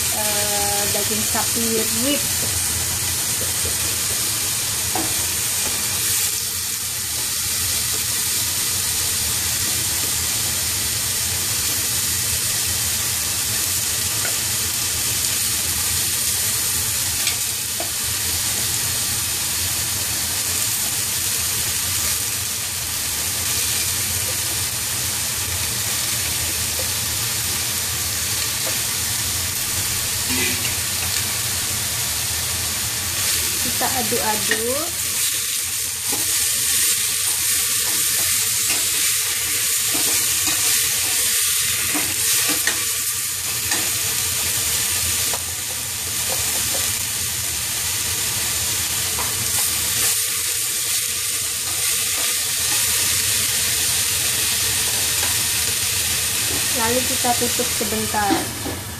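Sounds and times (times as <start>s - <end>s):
meat sizzling in hot oil: 0.0s - 58.9s.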